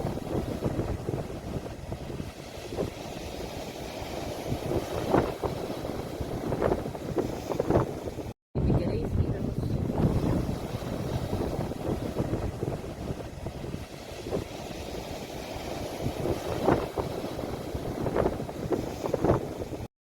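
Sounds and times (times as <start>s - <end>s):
sea waves rushing: 0.0s - 19.9s
waves splashing: 0.0s - 19.9s
wind rumbling on microphone: 0.0s - 19.9s.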